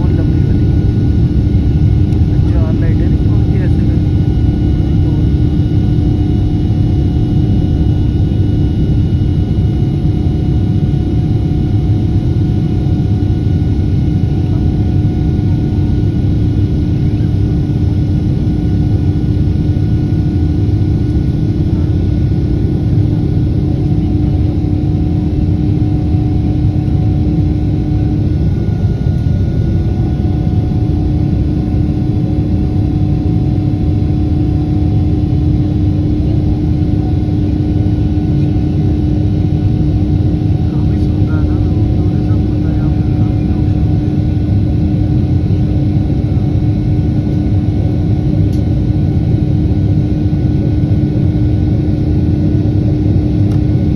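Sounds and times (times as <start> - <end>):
constant tonal hum: 0.0 - 53.9
jet engines loud rumble: 0.0 - 53.9.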